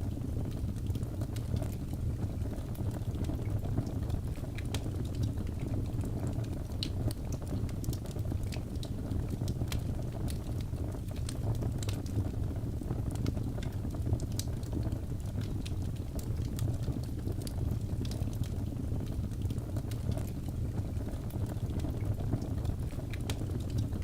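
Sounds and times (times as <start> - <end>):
fire crackles and pops: 0.0 - 24.0
fire flames rumbling: 0.0 - 24.0.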